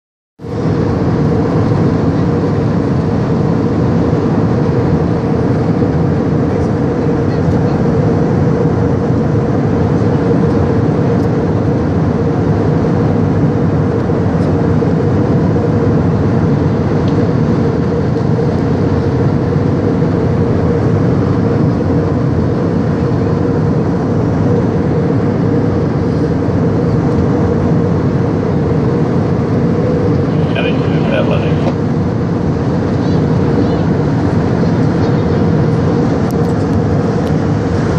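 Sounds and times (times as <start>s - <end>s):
jet engine and airflow rush: 0.4s - 37.9s
steady cabin hum: 0.5s - 37.9s.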